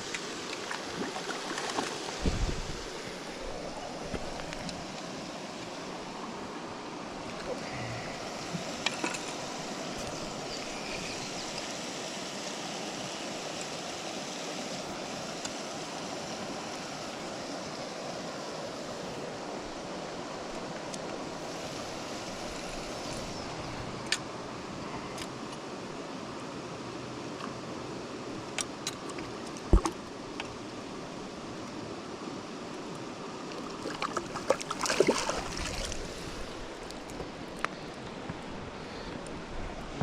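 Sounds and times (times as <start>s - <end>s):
river water rushing over rocks: 0.0s - 40.0s.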